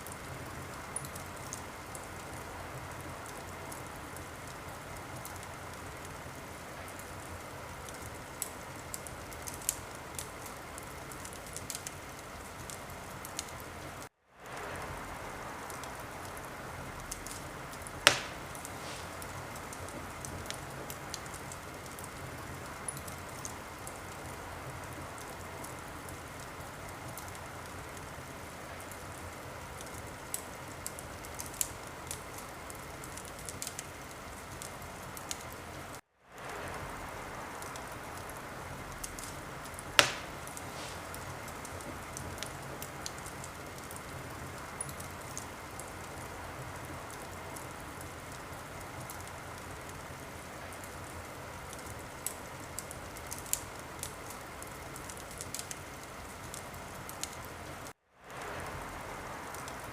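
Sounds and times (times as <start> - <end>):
loud crack of burning wood: 0.0 - 59.9
wood fire crackling: 0.0 - 59.9.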